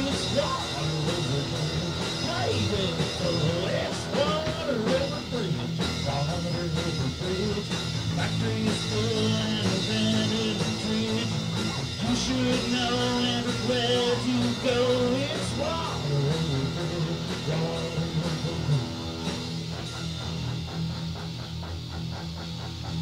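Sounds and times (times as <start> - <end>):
rock music with singing: 0.0 - 23.0.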